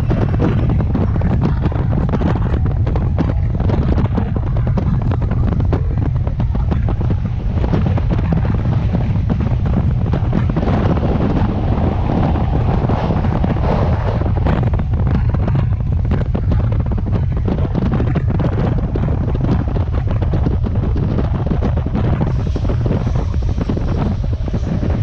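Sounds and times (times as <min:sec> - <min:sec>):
train clicking and rattling: 0:00.0 - 0:25.0
train rumbling on track: 0:00.0 - 0:25.0
wind buffeting microphone: 0:00.0 - 0:25.0.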